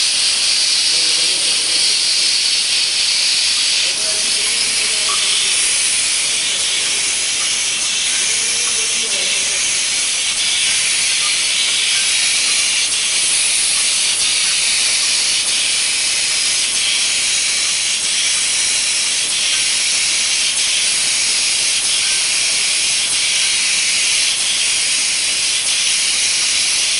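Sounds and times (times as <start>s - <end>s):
bottling machine hissing: 0.0s - 26.9s.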